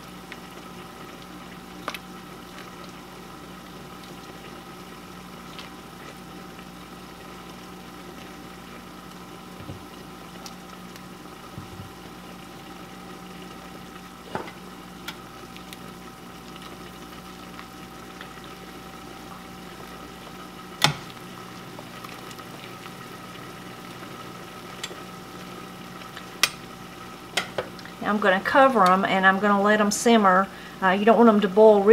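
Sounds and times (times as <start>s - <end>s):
broth bubbling in a pot: 0.0s - 31.9s
faint steady hum: 0.0s - 31.9s.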